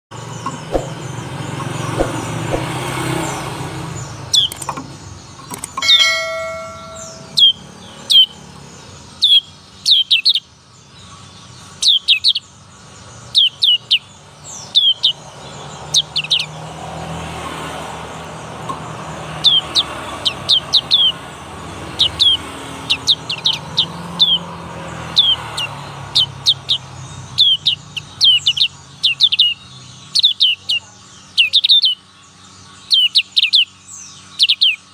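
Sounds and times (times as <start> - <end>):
bird chirping: 0.1 - 17.2, 18.0 - 34.9.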